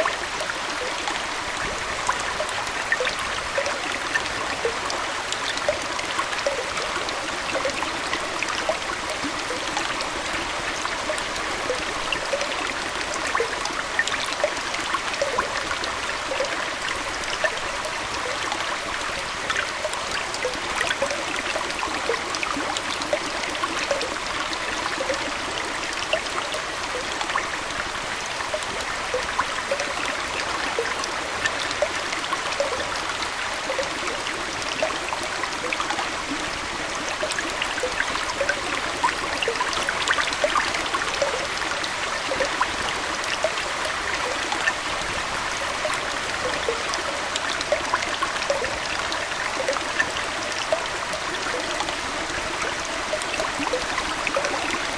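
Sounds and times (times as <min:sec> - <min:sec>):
aquarium water flowing: 0:00.0 - 0:54.9.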